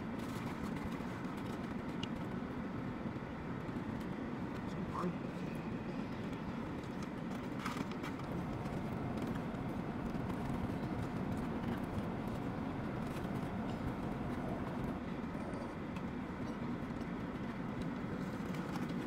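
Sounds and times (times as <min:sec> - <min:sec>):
low rumble inside car: 0:00.0 - 0:19.0.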